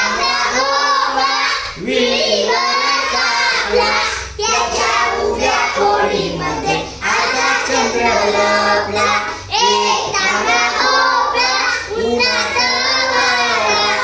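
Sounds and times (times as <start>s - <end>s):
children singing in unison: 0.0s - 14.0s.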